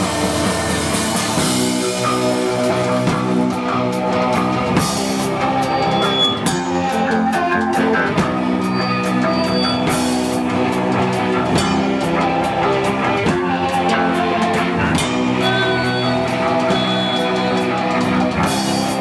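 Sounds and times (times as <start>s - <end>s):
drum kit: 0.0s - 19.0s
guitar chords: 0.0s - 19.0s
rock band playing live: 0.0s - 19.0s.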